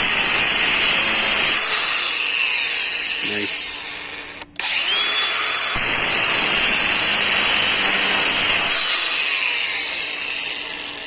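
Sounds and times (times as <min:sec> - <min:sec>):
angle grinder grinding metal: 0:00.0 - 0:11.0.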